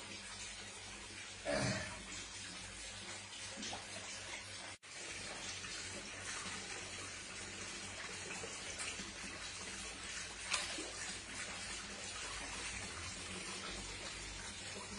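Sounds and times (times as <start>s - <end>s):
running water rushing: 0.0s - 14.9s
water splashing: 0.0s - 14.9s.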